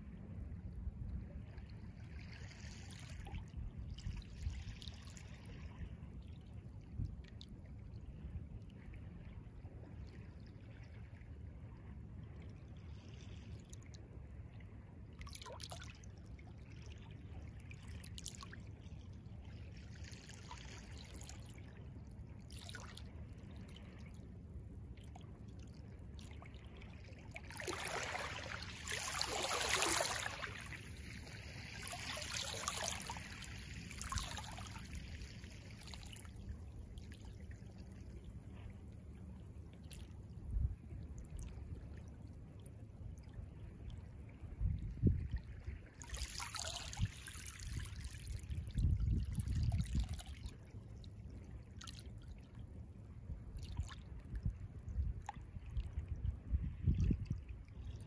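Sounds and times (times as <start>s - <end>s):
small waves lapping: 1.4s - 6.9s, 8.8s - 44.5s, 45.1s - 56.6s.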